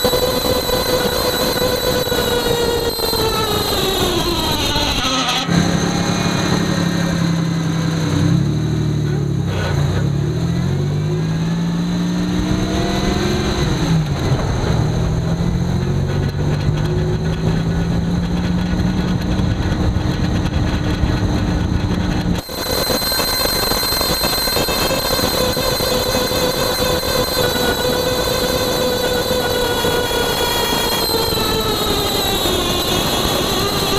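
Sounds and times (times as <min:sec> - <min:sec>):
axle drone: 0:00.0 - 0:33.9
road rushing noise: 0:00.0 - 0:33.9.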